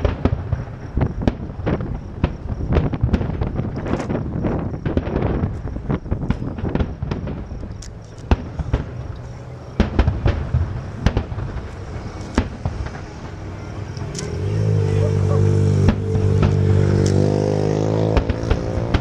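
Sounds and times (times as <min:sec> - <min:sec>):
firework shell bursts and booms: 0:00.0 - 0:09.1, 0:09.8 - 0:14.2, 0:15.7 - 0:17.2, 0:18.1 - 0:19.0
continuous fireworks rumble: 0:00.0 - 0:19.0.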